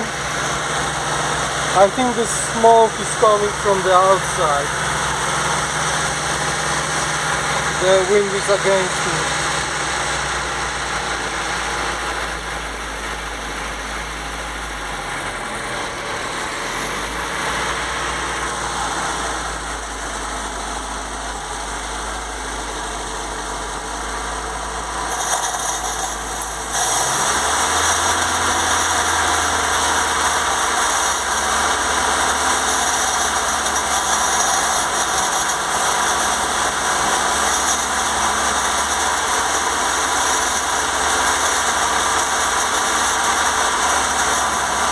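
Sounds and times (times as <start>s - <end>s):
petrol engine idling: 0.0s - 44.9s.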